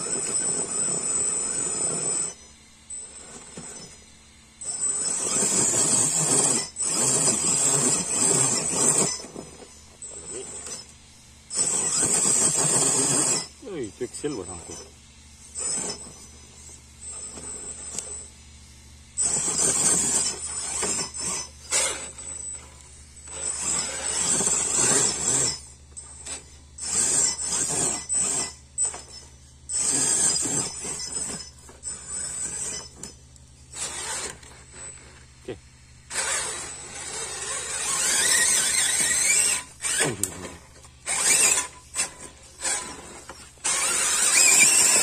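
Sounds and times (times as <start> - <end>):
electric motors whining: 0.0 - 45.0.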